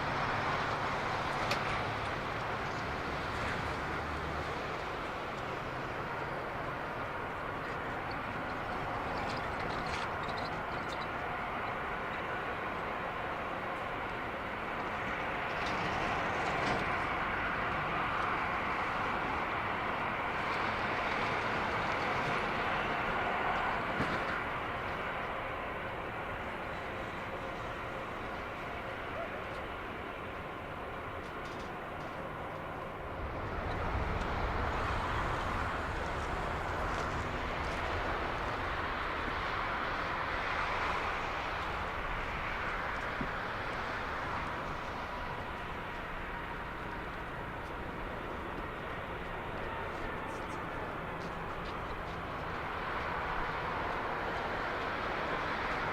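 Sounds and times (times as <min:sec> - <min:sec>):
jet engine noise: 0:00.0 - 0:55.9.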